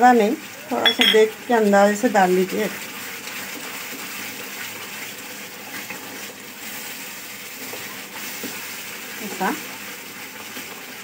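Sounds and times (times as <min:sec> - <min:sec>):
paste hissing in a pan: 0:00.2 - 0:11.0.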